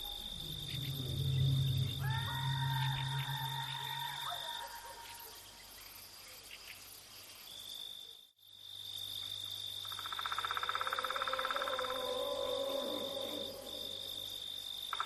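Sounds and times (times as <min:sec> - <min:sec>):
high cricket trill: 0:00.0 - 0:06.9, 0:08.6 - 0:15.0
fast pulsing insect trill: 0:00.0 - 0:07.0, 0:08.8 - 0:15.0.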